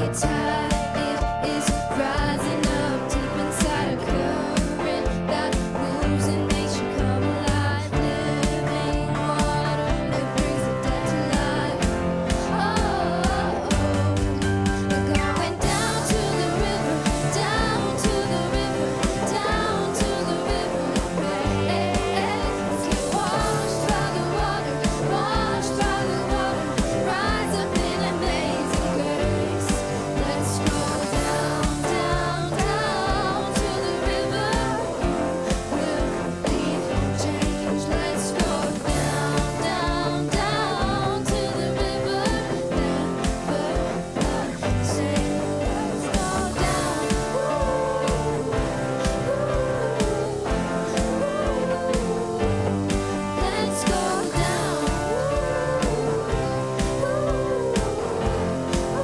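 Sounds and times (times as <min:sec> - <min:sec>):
person singing: 0:00.0 - 0:59.0
upbeat music with drum beat: 0:00.0 - 0:59.0
worship band playing: 0:00.0 - 0:59.0.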